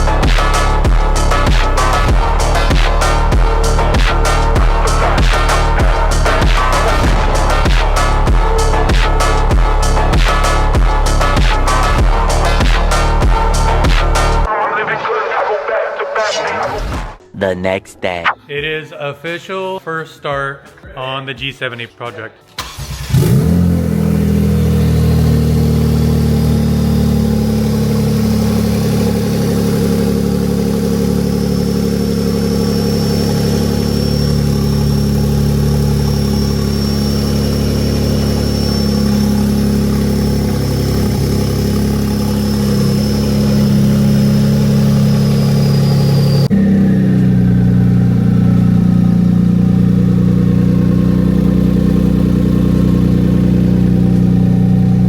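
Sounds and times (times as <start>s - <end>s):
car engine idling: 0.0s - 14.5s, 22.6s - 55.0s.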